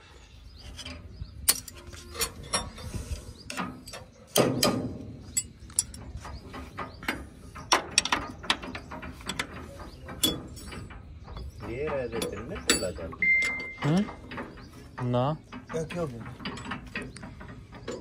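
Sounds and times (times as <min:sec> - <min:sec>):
heavy metal clank: 0:03.5 - 0:18.0.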